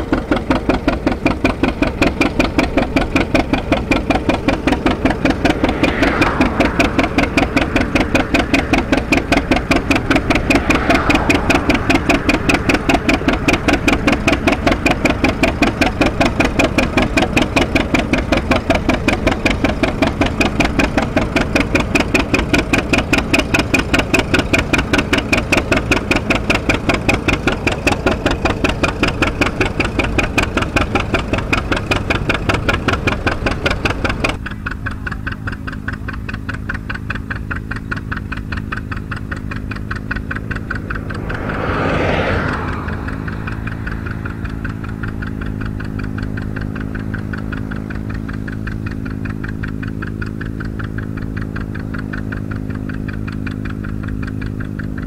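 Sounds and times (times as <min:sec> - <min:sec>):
tractor engine pulsing: 0:00.0 - 0:55.0.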